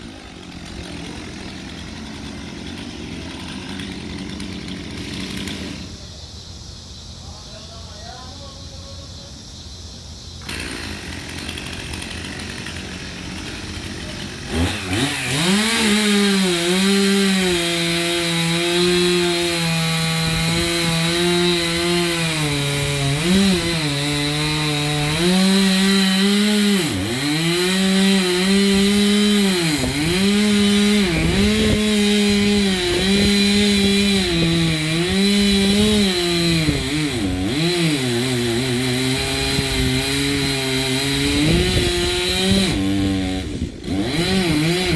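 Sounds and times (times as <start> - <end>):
chainsaw cutting wood: 0.0 - 6.0, 10.4 - 44.9.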